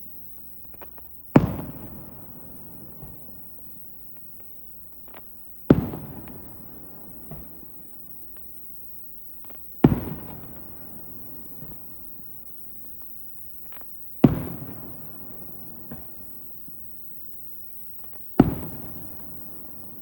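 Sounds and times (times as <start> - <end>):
fireworks booming with echo: 0.0 - 20.0
small crackles and pops: 0.0 - 20.0.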